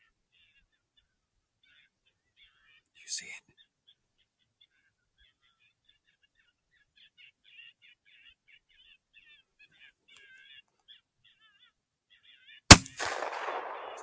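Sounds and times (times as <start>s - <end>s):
faint bird-like chirping: 0.0s - 14.0s.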